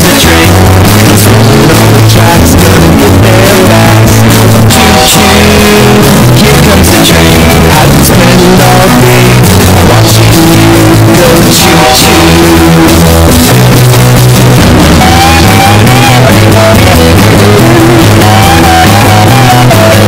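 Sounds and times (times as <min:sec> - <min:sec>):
loud bass-boosted rock music: 0:00.0 - 0:20.0
person singing: 0:00.0 - 0:20.0.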